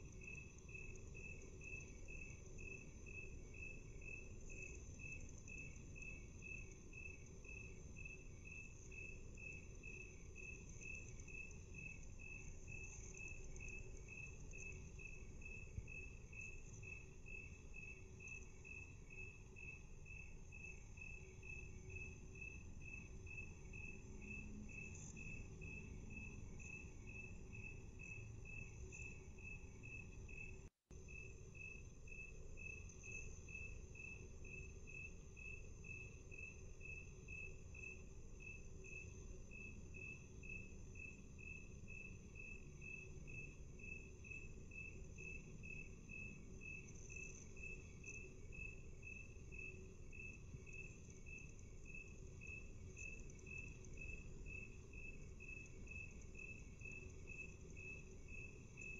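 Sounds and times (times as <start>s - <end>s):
cricket chirping: 0.0s - 58.9s.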